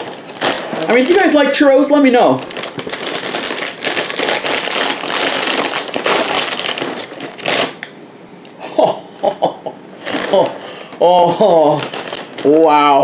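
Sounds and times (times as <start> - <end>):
plastic bag crinkling and tearing: 0.0 - 7.9, 10.0 - 13.0.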